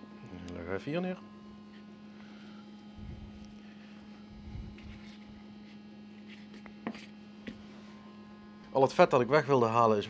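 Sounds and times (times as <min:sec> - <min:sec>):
mains hum: 0:00.0 - 0:10.0.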